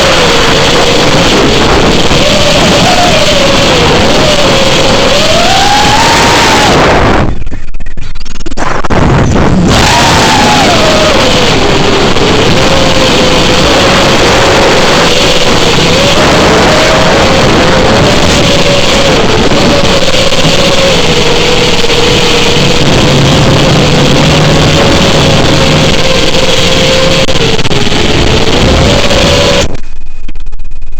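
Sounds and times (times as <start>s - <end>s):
drone motors buzzing: 0.0s - 30.2s
rushing air: 0.0s - 30.9s.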